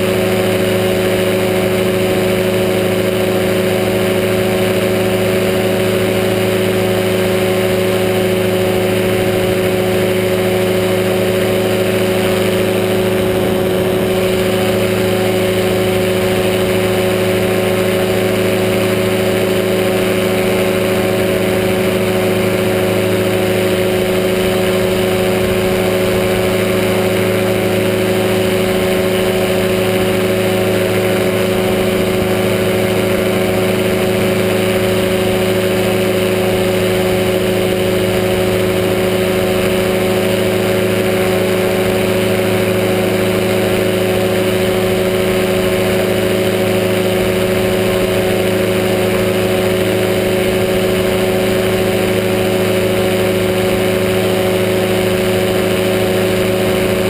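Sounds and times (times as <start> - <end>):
engine and propeller droning: 0.0 - 57.0.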